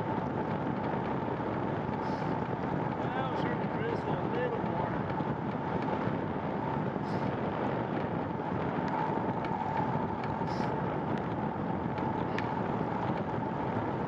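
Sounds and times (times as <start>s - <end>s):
bicycle tyres rolling: 0.0s - 14.0s
wind on microphone: 0.0s - 14.0s.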